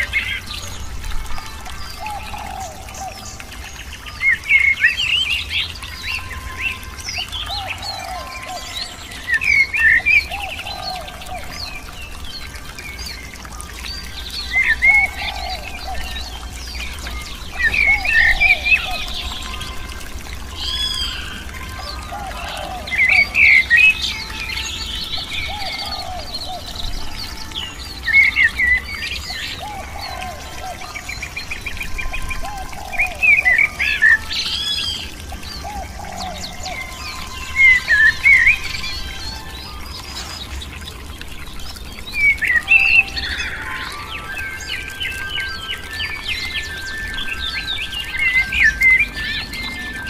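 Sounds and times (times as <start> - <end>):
birds chirping and calling: 0.0 - 50.0.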